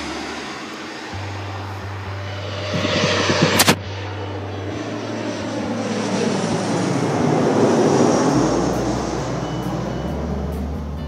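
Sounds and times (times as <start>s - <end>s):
jet passing overhead: 0.0s - 11.0s.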